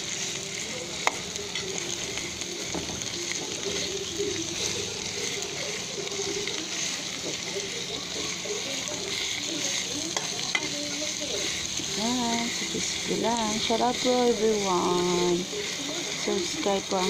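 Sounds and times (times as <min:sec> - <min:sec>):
garlic and onion sizzling in oil: 0:00.0 - 0:17.0.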